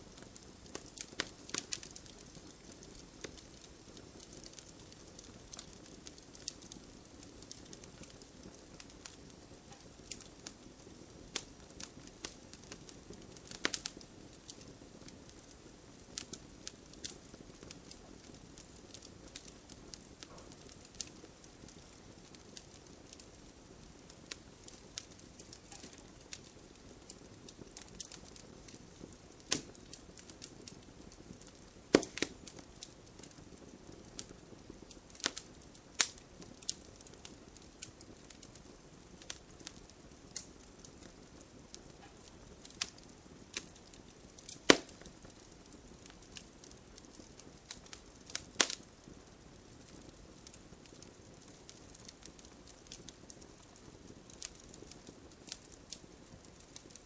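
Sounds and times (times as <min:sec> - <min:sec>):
soft hiss of rain: 0:00.0 - 0:57.0
wood fire crackling: 0:00.0 - 0:57.0
sharp pops of fire: 0:00.1 - 0:49.2, 0:49.8 - 0:57.0.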